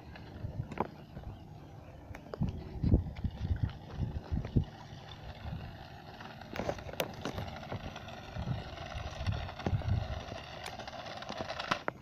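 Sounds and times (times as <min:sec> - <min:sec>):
toy car motor whir: 0:00.2 - 0:12.0.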